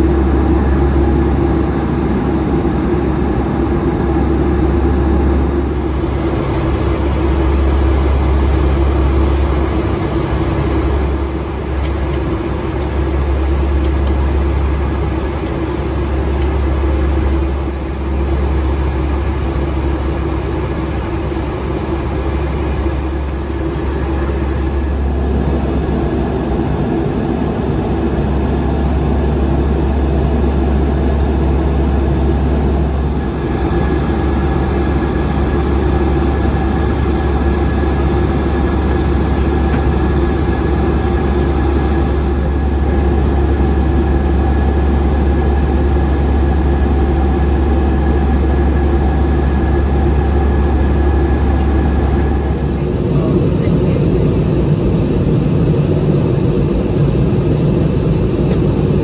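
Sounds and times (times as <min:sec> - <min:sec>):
jet engine and airflow drone: 0:00.0 - 0:59.0.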